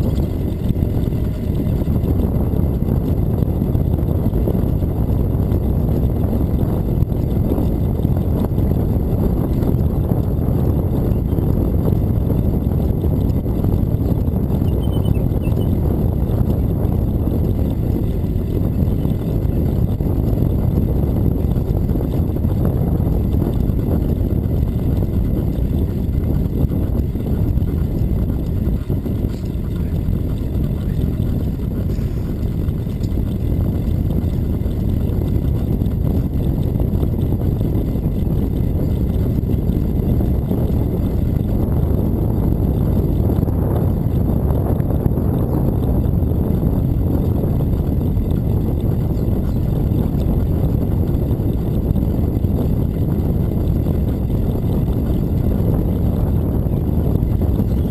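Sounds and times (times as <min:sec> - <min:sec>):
tyres rolling on asphalt: 0:00.0 - 0:57.9
wind buffeting microphone: 0:00.0 - 0:57.9.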